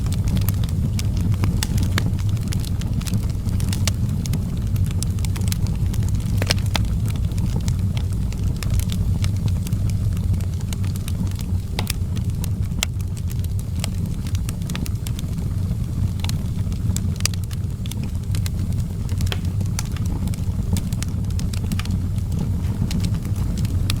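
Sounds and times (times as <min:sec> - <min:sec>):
burning wood crackling: 0:00.0 - 0:24.0
fire flames rumbling: 0:00.0 - 0:24.0.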